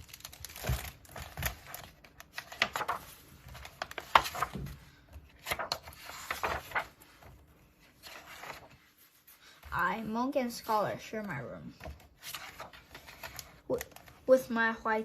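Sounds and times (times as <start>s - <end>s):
book pages turning: 0.0s - 14.5s.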